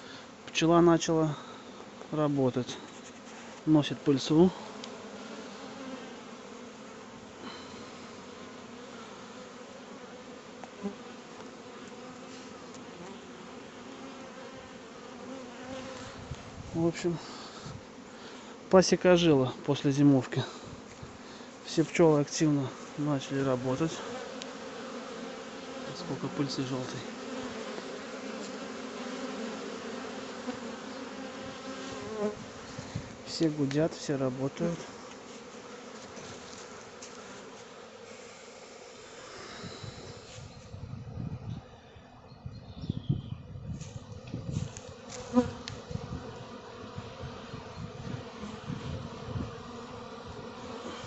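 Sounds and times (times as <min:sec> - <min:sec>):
honeybees humming: 0:00.0 - 0:51.0.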